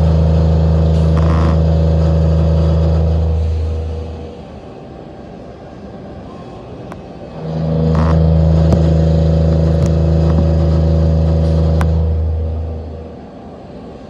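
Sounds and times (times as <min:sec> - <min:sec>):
lathe machine hum: 0:00.0 - 0:14.0.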